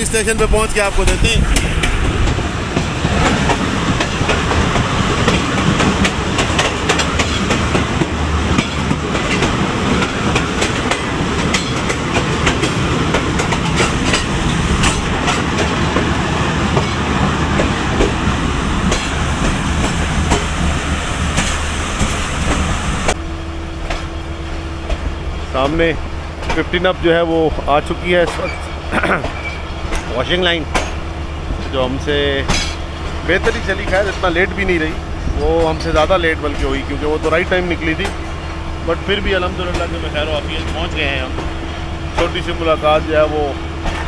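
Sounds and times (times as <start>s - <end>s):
train rolling rumble: 0.0s - 44.0s.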